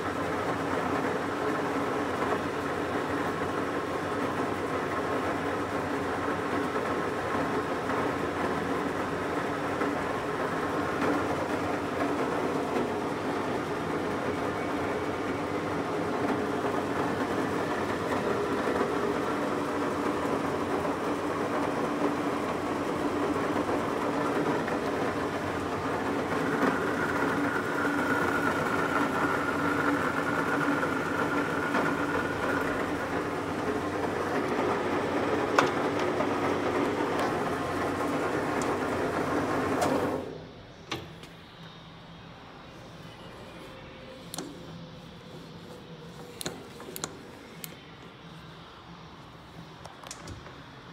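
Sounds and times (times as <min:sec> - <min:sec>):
high mechanical whine: 0:00.0 - 0:50.9
lathe mechanical hum: 0:00.0 - 0:50.9.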